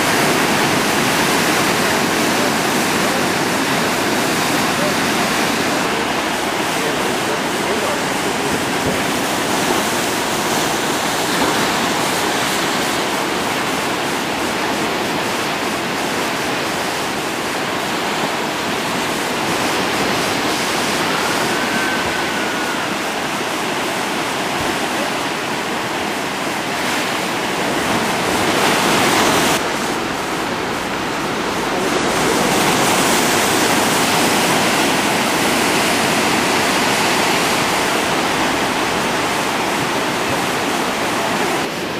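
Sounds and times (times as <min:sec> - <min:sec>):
heavy surf breaking on rocks: 0:00.0 - 0:41.9.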